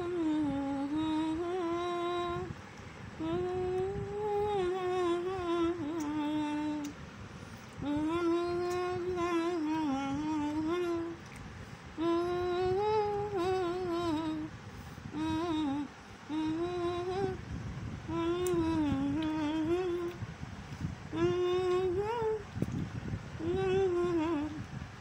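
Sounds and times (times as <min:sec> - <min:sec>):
woman humming: 0:00.0 - 0:02.5, 0:03.2 - 0:07.0, 0:07.8 - 0:11.2, 0:12.0 - 0:17.5, 0:18.1 - 0:20.2, 0:21.0 - 0:22.5, 0:23.3 - 0:24.7.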